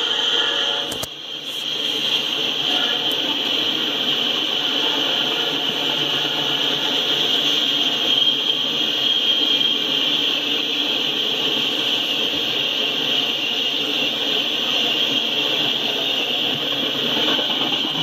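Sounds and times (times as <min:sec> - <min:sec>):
high-pitched hiss: 0:00.0 - 0:17.1
train wheels rumbling on rail: 0:00.0 - 0:18.0.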